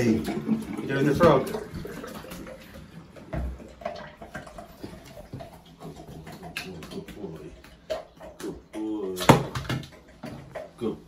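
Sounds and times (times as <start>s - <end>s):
paws scrabbling in bathtub: 0.0s - 11.0s.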